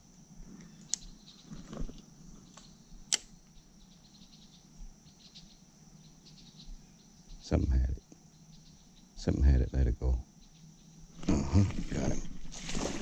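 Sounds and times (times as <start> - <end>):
faint high-pitched hum: 0.0 - 13.0.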